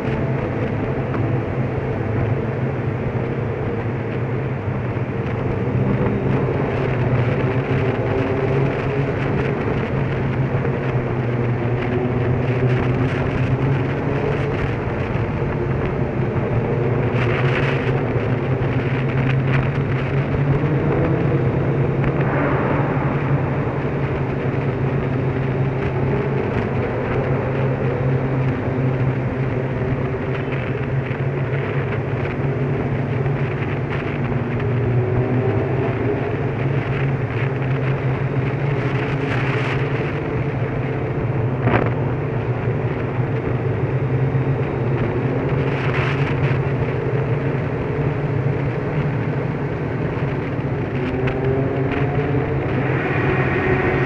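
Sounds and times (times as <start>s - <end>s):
road and wind noise: 0.0s - 54.0s.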